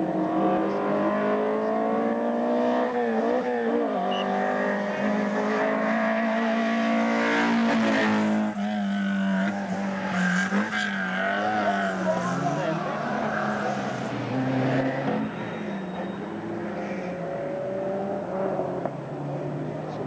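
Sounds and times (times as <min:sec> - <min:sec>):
race car engine at full throttle: 0:00.0 - 0:20.0.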